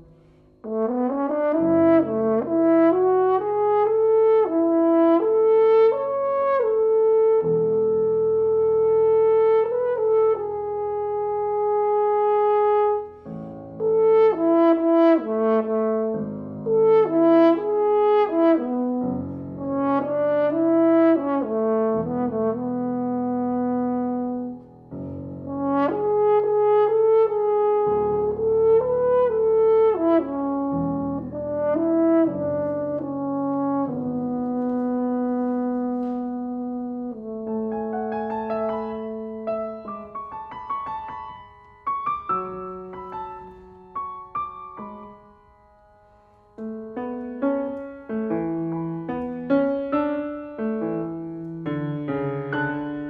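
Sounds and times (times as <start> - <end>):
french horn melody: 0.0 - 53.0
piano accompaniment: 0.0 - 53.0.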